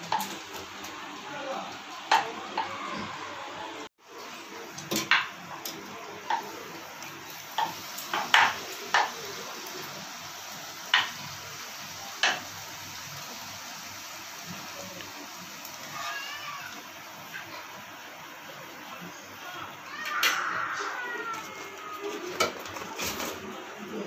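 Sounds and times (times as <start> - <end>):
deep-frying sizzle in oil: 0.0 - 3.2, 4.0 - 23.7.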